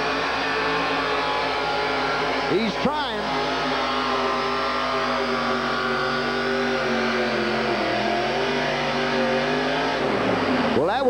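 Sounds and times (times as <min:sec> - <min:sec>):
vehicle engine running flat out: 0:00.0 - 0:11.0.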